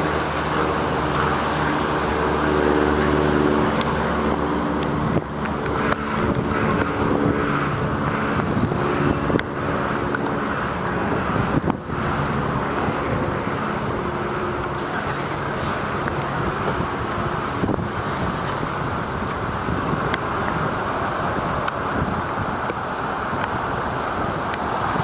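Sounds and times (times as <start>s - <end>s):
tyre and wind noise: 0.0s - 25.0s
vehicle engine humming: 0.0s - 25.0s.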